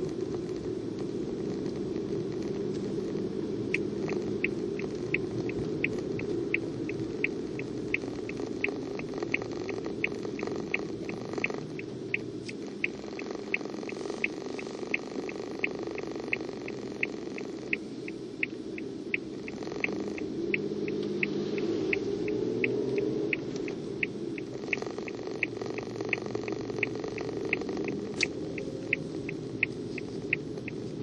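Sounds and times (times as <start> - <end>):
road and engine rumble: 0.0 - 31.0
turn signal ticking: 0.0 - 31.0.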